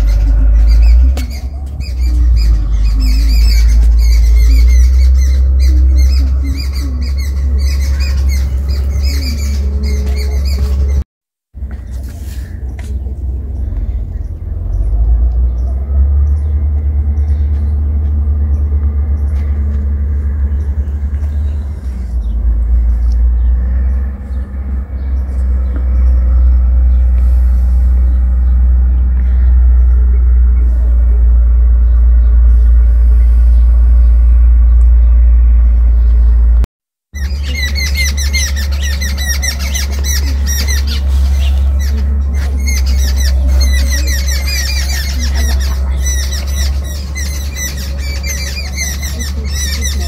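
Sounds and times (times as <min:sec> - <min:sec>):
loud low rumble: 0:00.0 - 0:11.0, 0:11.6 - 0:50.0.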